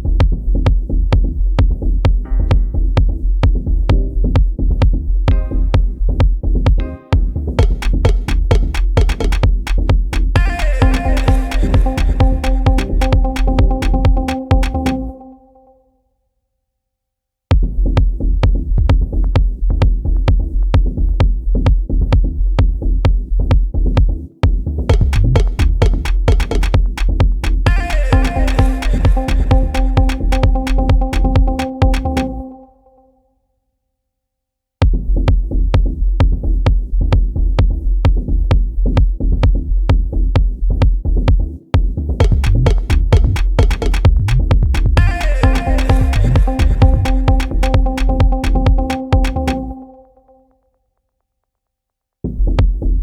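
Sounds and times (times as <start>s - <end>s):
deep sub-bass: 0.0s - 15.1s, 17.5s - 32.4s, 34.8s - 49.8s, 52.2s - 53.0s
electronic drum machine beat: 0.0s - 15.2s, 17.5s - 32.6s, 34.8s - 50.3s.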